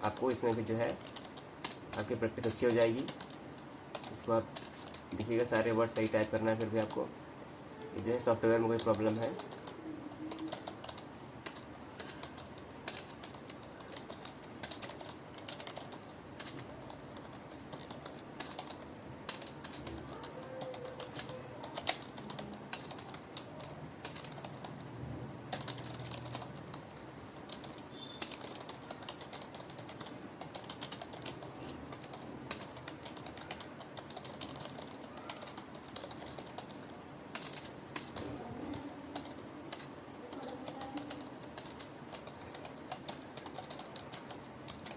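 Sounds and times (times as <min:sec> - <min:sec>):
keyboard typing: 0:00.0 - 0:44.9.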